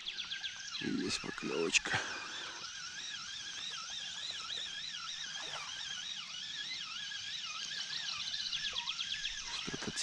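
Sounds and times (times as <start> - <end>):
fishing reel whining: 0.0 - 10.0.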